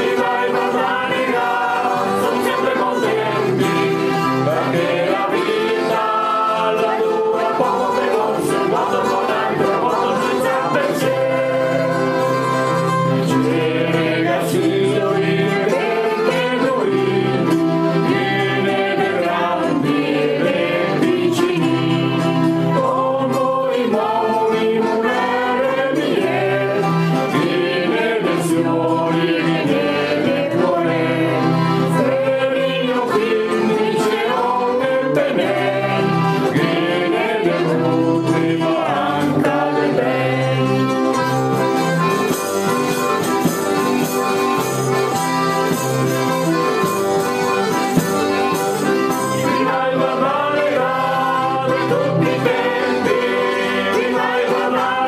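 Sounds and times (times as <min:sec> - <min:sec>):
song with several voices: 0:00.0 - 0:55.0.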